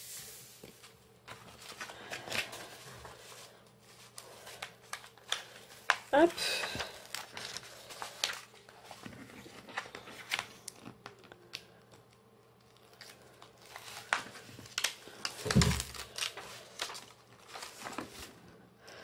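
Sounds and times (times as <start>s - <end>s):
paper crinkling and peeling: 0.7s - 18.4s.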